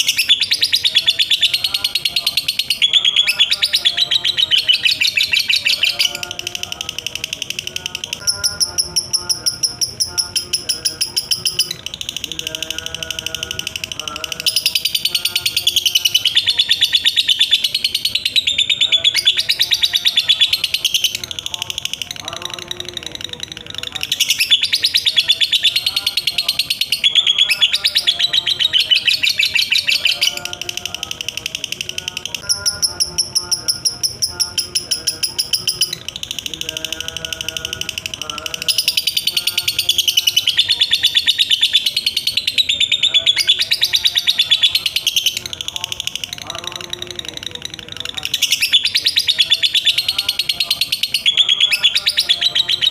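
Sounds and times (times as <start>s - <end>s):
bird chattering high chirps: 0.0s - 52.9s.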